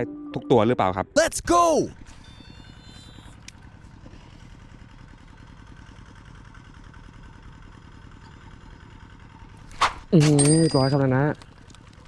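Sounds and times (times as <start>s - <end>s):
small engine idling: 1.6s - 12.0s.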